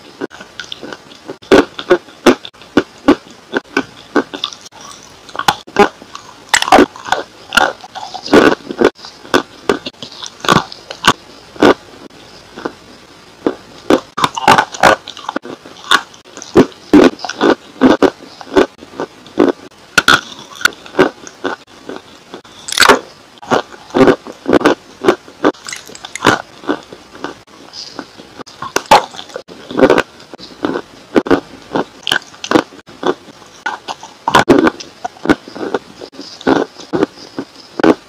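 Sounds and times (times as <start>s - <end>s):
biting and chewing crunches: 0.2s - 12.8s, 13.4s - 38.0s.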